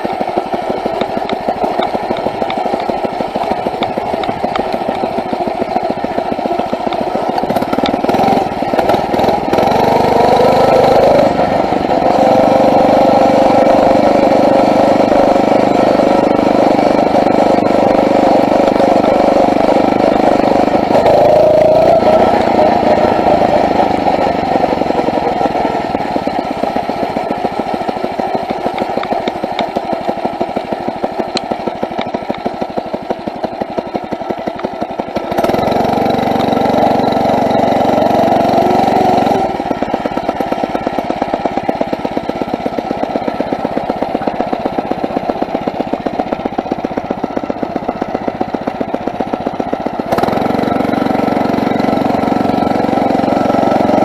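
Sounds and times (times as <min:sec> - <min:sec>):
motorized bicycle engine chugging: 0:00.0 - 0:54.0.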